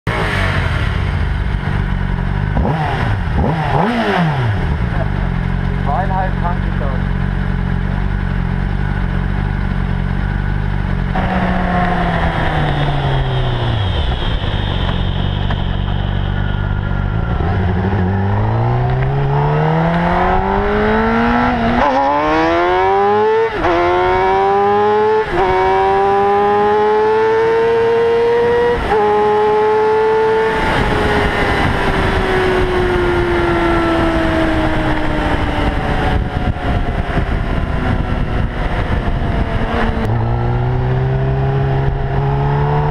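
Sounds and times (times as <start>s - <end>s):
motorcycle engine accelerating: 0.1s - 42.9s.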